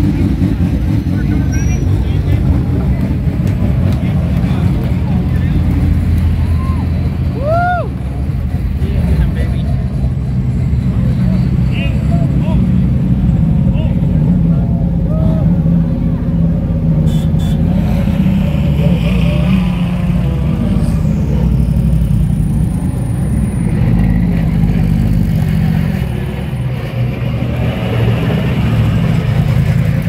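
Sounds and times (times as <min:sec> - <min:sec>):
race car engines rumbling: 0:00.0 - 0:30.0.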